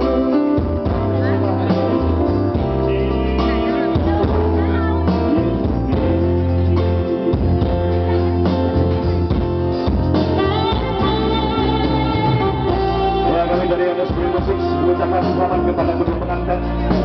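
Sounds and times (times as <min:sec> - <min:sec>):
bass line and beat: 0:00.0 - 0:17.0
guitar: 0:00.0 - 0:17.0.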